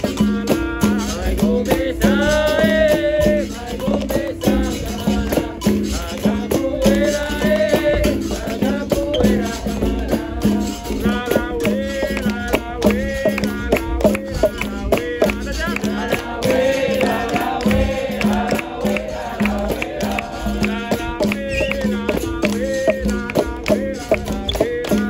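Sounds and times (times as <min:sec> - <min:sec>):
berimbau twanging rhythm: 0:00.0 - 0:25.0
call-and-response singing: 0:00.0 - 0:25.0
shaker rattling: 0:00.0 - 0:25.0.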